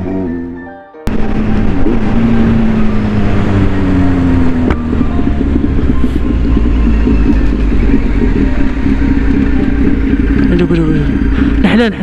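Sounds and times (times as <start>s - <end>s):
motorcycle engine running: 0.0s - 12.0s
low rumble: 1.1s - 12.0s.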